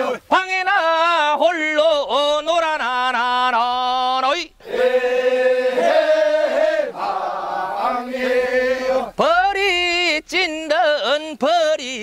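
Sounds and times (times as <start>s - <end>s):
men singing unaccompanied work song: 0.0s - 12.0s.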